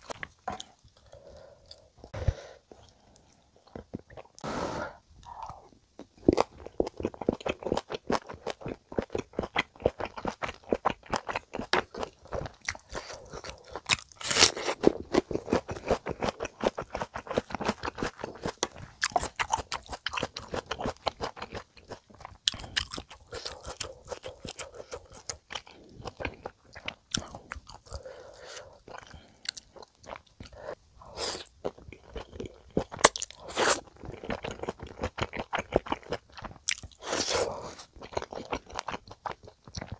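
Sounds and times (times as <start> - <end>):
person chewing food: 0.0 - 4.5, 5.2 - 39.9.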